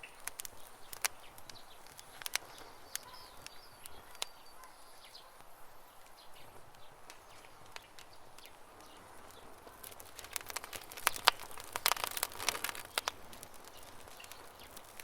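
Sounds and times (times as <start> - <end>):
birds chirping: 0.0 - 15.0
campfire crackling: 0.0 - 15.0.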